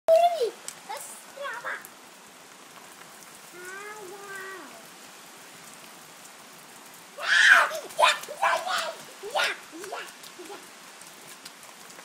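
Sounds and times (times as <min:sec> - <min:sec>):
rain on paving stones: 0:00.1 - 0:12.0.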